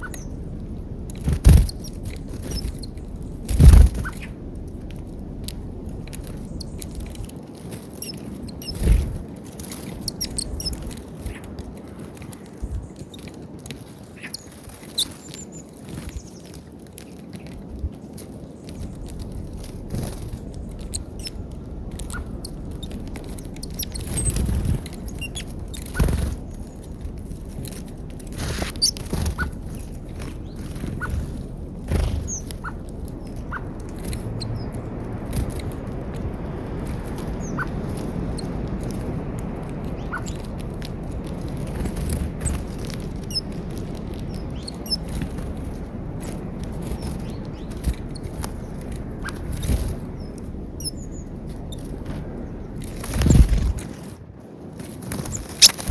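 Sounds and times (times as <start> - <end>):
birds pecking at feeder: 0.0 - 54.0, 54.8 - 55.9.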